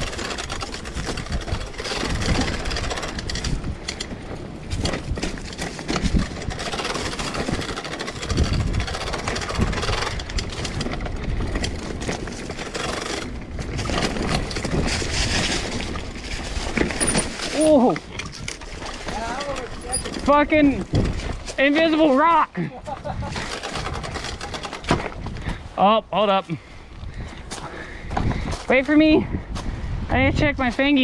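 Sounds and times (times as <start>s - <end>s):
wind rumble on microphone: 0.0s - 22.0s, 22.8s - 31.0s
tyres rolling over dirt: 0.0s - 26.6s
bike rattling over bumps: 0.0s - 29.8s.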